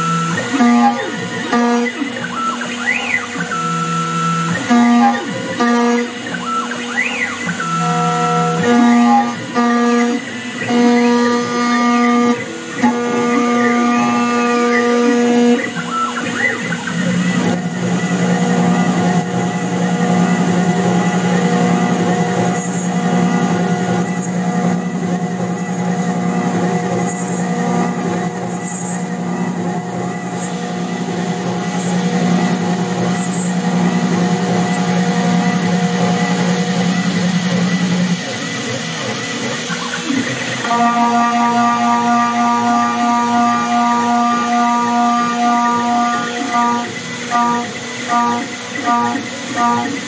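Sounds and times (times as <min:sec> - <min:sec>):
milling spindle whine: 0:00.0 - 0:50.0.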